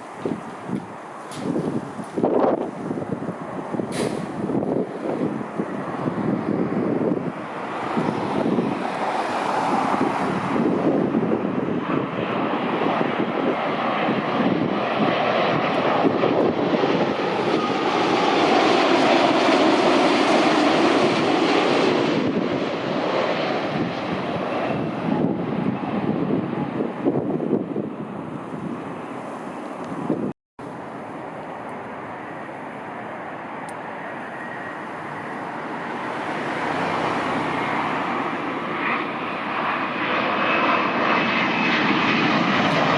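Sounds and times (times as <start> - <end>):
jet airliner passing: 0.0 - 42.9.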